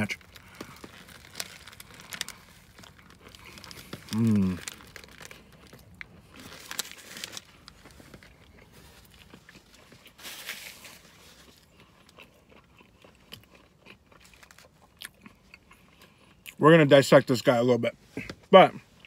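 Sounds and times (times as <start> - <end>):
chewing and crunching: 0.0 - 16.6.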